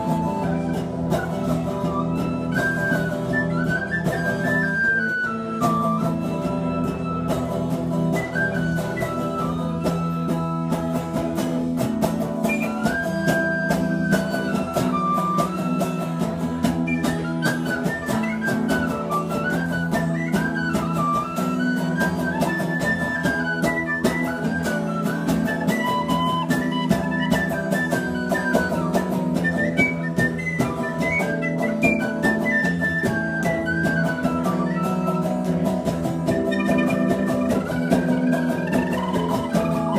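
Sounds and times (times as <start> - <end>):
tin whistle melody: 0.0 - 11.2, 12.4 - 39.9.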